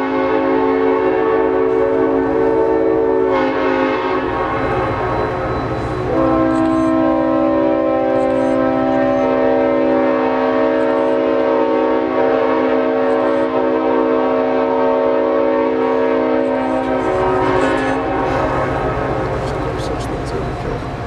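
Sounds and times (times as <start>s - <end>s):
train rumble: 0.0s - 13.7s, 15.7s - 21.0s
locomotive horn chord: 0.0s - 20.8s.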